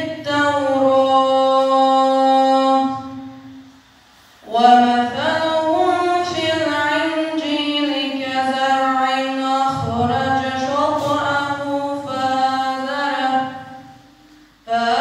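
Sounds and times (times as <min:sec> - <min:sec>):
boy reciting melodically: 0:00.0 - 0:15.0.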